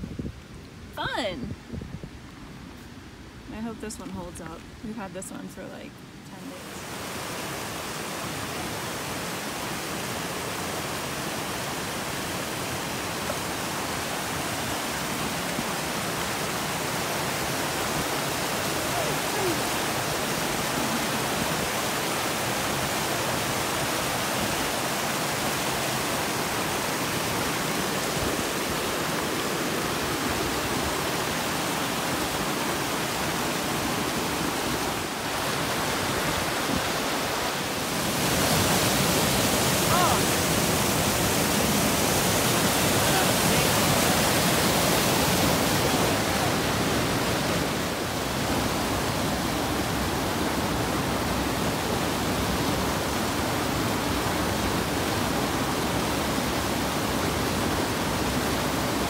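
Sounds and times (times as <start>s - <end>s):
creek rushing over rocks: 6.3s - 59.0s.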